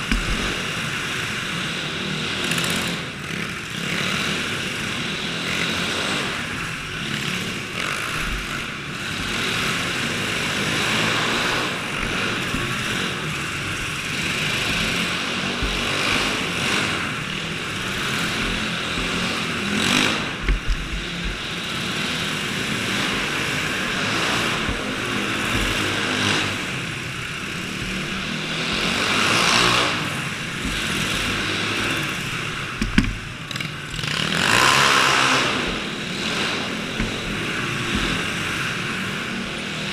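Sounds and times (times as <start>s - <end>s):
small petrol engines buzzing: 0.0s - 39.9s.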